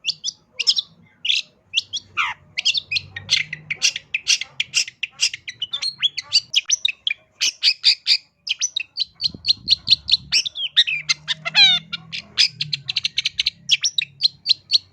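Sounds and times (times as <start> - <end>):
bird singing chirps and chatter: 0.0 - 14.9.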